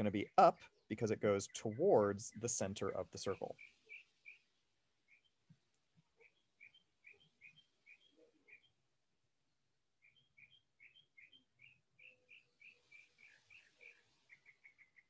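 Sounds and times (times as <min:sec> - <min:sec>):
faint bird chirping: 0:00.0 - 0:09.0, 0:10.0 - 0:15.0.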